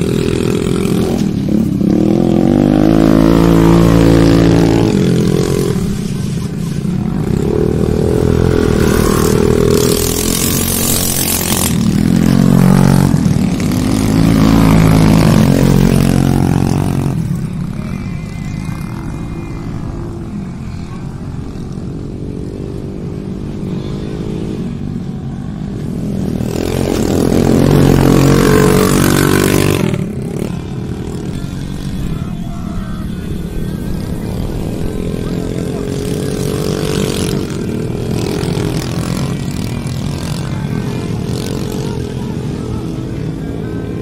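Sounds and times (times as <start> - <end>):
motorcycle engines revving: 0.0 - 44.0.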